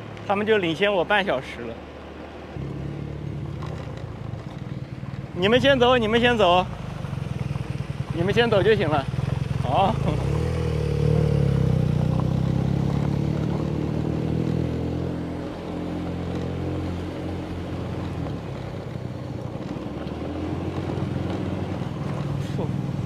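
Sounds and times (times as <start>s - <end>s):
motorcycle engines on gravel road: 0.0s - 23.0s.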